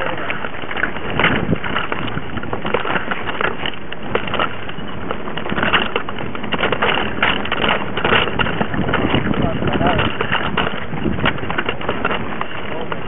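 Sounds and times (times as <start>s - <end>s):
bike rattling and clattering: 0.0s - 13.0s
bike tyres rumbling on dirt: 0.0s - 13.0s.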